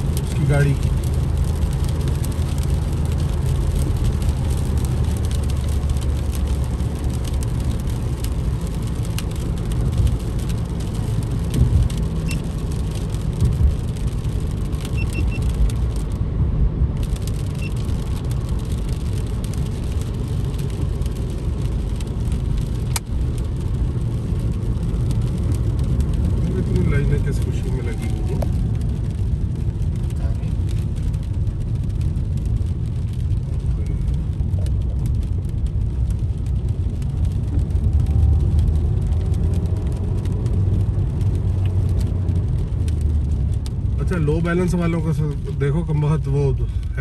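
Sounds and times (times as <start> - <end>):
tyres hissing on wet road: 0.0 - 16.1, 17.0 - 47.0
engine and tyre rumble: 0.0 - 47.0.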